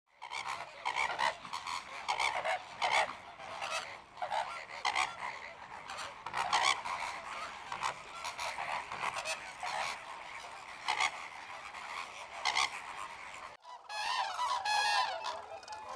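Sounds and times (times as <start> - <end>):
birds calling: 0.2 - 15.9.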